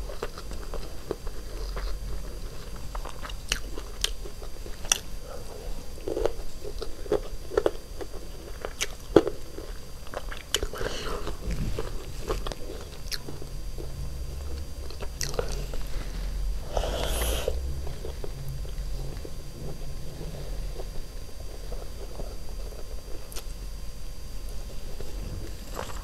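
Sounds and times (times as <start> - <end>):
person chewing food: 0.0 - 23.6, 24.5 - 26.0.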